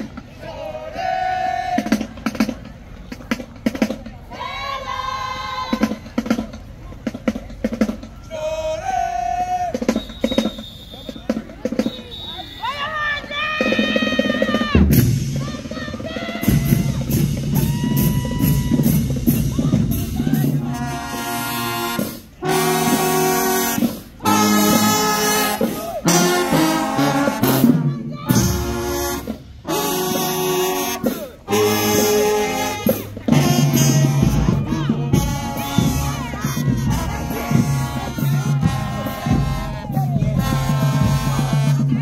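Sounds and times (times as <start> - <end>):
marching drums: 0.0 - 42.0
brass section playing: 8.3 - 42.0.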